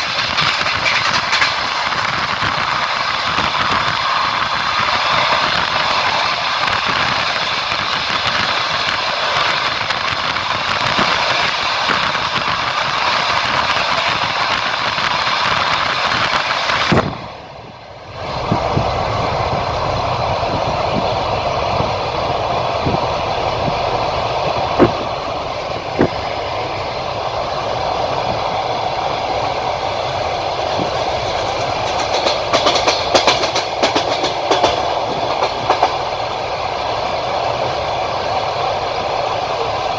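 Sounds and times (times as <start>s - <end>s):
wheel clicks over rail joints: 0.0s - 17.2s, 20.5s - 39.8s
train wheels rumbling on rail: 0.0s - 39.9s.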